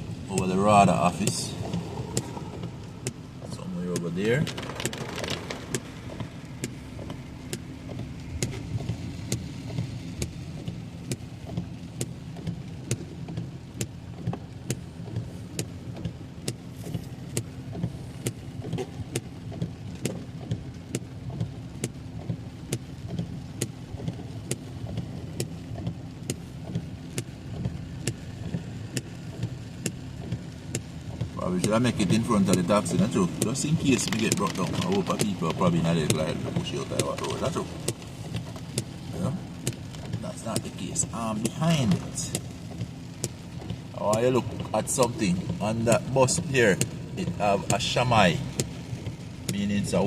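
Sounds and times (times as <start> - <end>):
car engine and road rumble: 0.0 - 50.0
regular ticking: 0.1 - 50.0.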